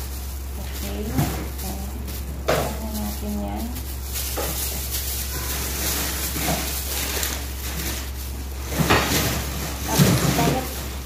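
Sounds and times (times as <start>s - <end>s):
gloved hands rubbing dough: 0.0s - 11.0s.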